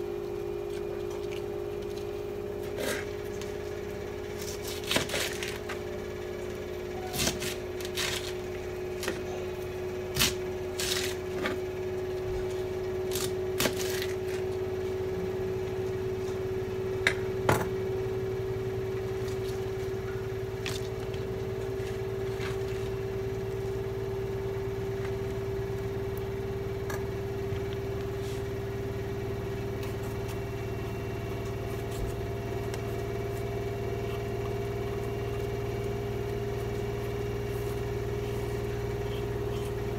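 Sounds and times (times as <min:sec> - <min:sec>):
appliance hum: 0:00.0 - 0:39.9.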